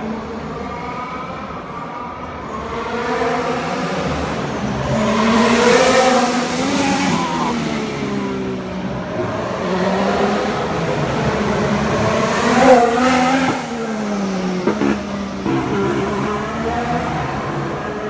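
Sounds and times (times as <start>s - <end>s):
racing car engines passing: 2.5s - 18.0s.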